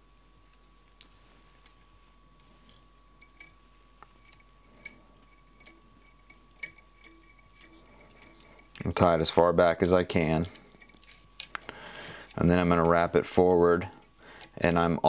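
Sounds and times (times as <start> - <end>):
faint steady high hum: 0.0 - 15.0.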